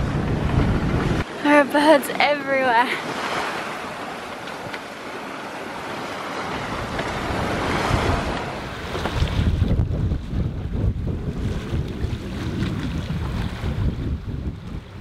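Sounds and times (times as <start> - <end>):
wind buffeting microphone: 0.0 - 5.1, 5.8 - 15.0
sea water rushing around yacht: 0.0 - 15.0.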